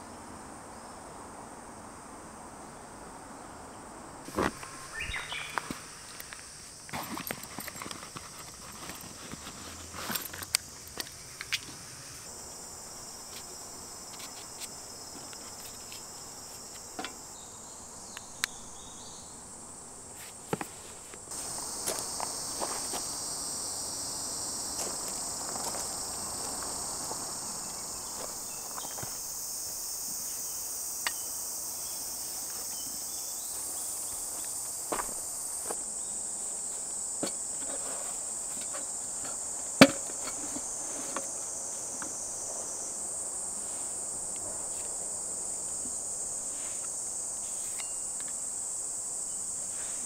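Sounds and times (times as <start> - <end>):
insects chorus: 0.0 - 50.0.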